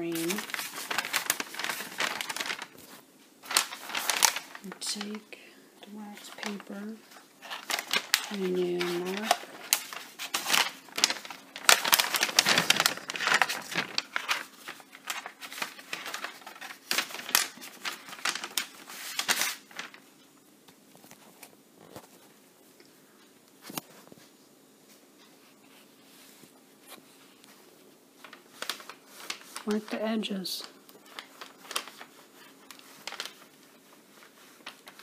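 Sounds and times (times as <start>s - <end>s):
paper rustling and crinkling: 0.0s - 5.3s, 5.9s - 22.4s, 25.6s - 35.0s.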